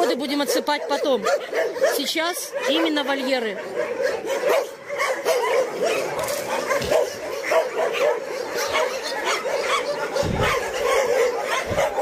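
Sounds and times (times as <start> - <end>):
many dogs barking and yelping: 0.0 - 12.0.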